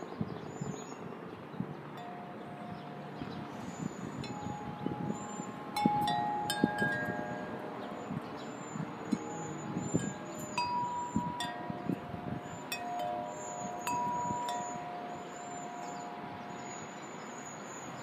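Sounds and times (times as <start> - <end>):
wind rumble on microphone: 0.0 - 18.0
tubular wind chime ringing: 2.0 - 18.0.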